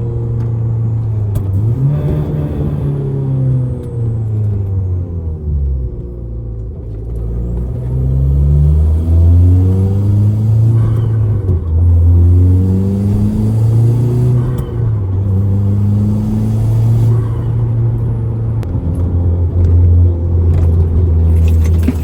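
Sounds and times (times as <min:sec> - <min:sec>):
car engine accelerating through gears: 0:00.0 - 0:22.0.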